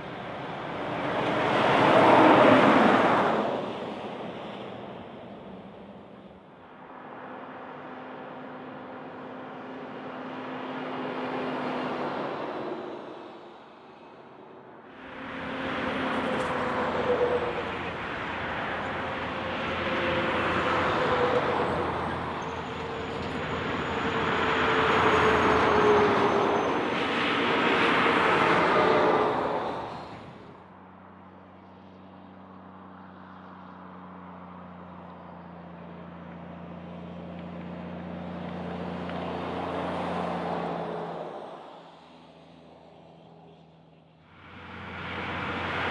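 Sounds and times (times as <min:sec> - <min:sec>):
diesel truck passing: 0:00.0 - 0:45.9
low engine hum: 0:00.0 - 0:45.9.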